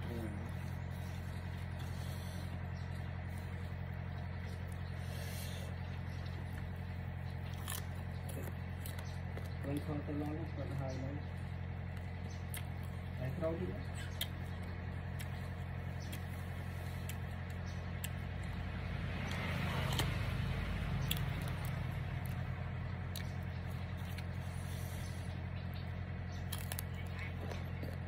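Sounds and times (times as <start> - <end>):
chewing crunchy mango: 0.0 - 28.0
low background hum: 0.0 - 28.0.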